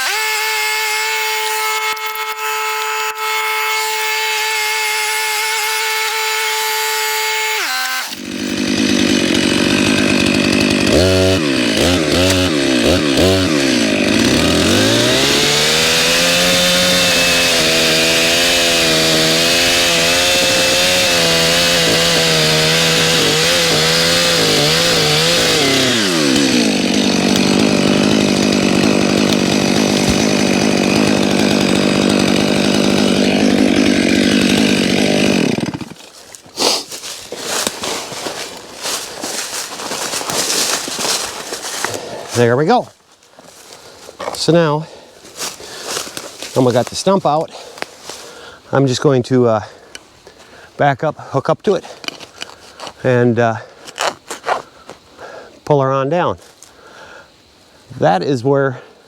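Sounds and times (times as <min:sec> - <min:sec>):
chainsaw cutting wood: 0:00.0 - 0:42.8, 0:43.5 - 0:50.4, 0:51.6 - 0:55.3.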